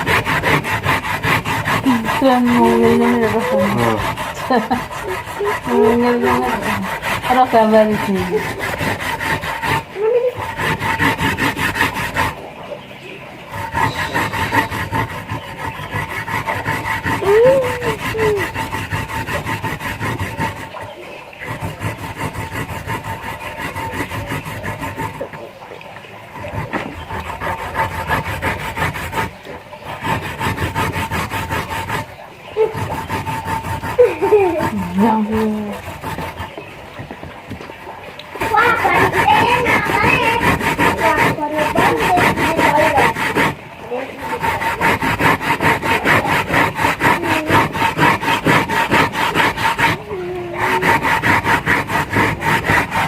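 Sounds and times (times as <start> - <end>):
rapid rubbing strokes: 0.0 - 53.0.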